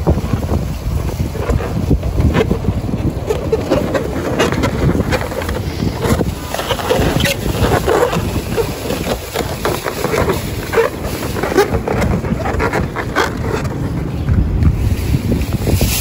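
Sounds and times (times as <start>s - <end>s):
balloons squeaking and rubbing: 0.0s - 16.0s
wind rumbling on microphone: 0.0s - 16.0s.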